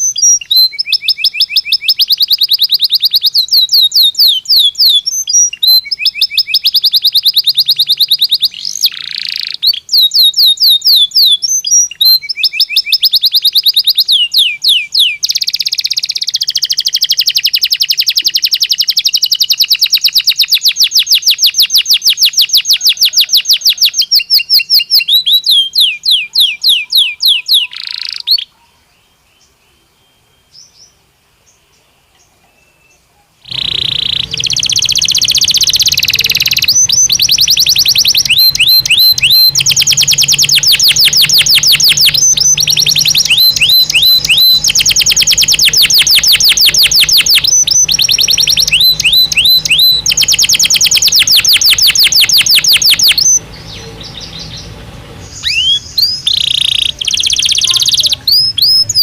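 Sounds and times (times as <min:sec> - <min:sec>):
canary singing trills: 0:00.0 - 0:31.0, 0:31.6 - 0:59.0.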